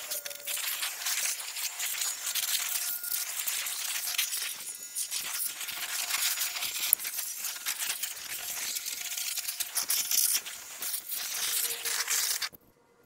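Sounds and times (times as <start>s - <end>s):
pressure washer spraying: 0.0s - 12.5s.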